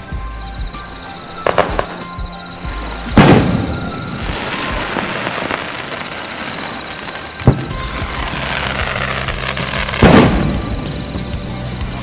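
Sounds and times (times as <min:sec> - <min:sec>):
background music: 0:00.0 - 0:12.0
firework shells bursting: 0:00.7 - 0:12.0.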